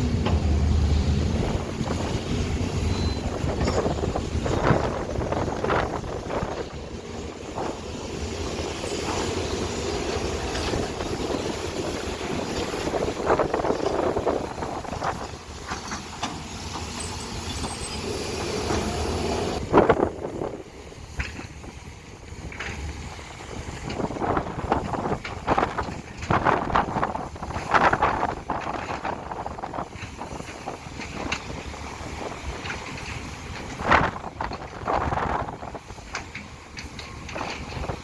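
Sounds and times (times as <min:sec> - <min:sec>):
diesel engine rumble: 0:00.0 - 0:38.0
wind buffeting microphone: 0:00.0 - 0:38.0.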